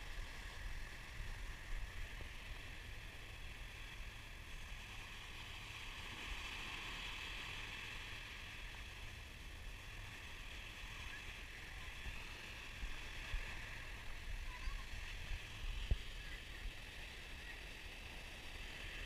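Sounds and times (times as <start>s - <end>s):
small waves washing onto sand: 0.0s - 19.0s
wind rumbling on microphone: 0.0s - 19.0s.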